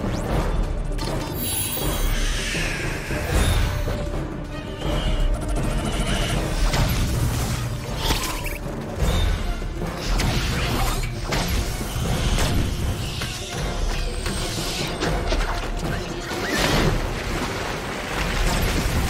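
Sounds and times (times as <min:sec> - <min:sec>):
dramatic film score: 0:00.0 - 0:19.0.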